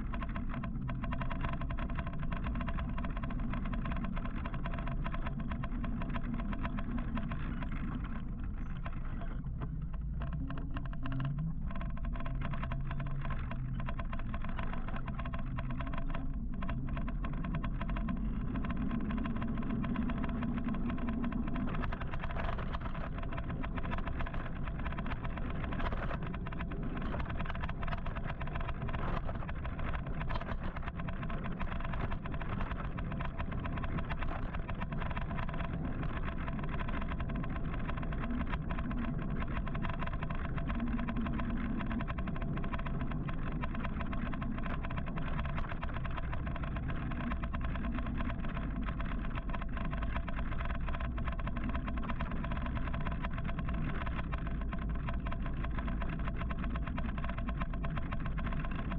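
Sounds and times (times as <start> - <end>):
wind: 0.0 - 58.9.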